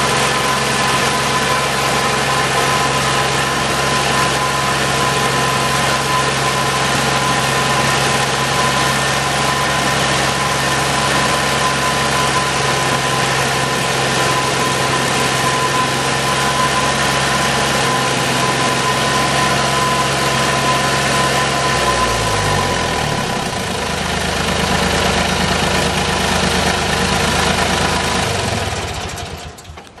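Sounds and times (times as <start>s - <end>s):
high whine: 0.0s - 28.8s
trencher engine running: 0.0s - 30.0s.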